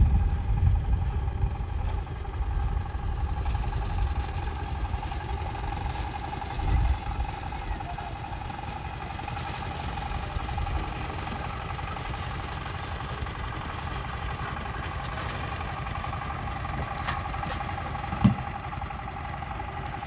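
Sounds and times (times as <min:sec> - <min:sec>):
low irregular rumble: 0:00.0 - 0:20.0
motor engine humming: 0:00.0 - 0:20.0.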